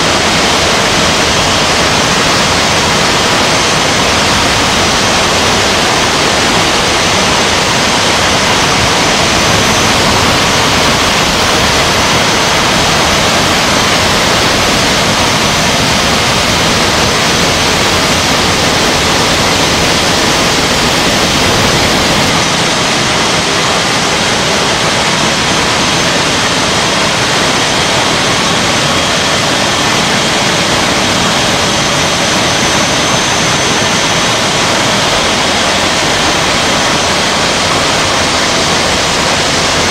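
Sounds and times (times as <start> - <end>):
molten iron jetting rushing noise: 0.0 - 39.9.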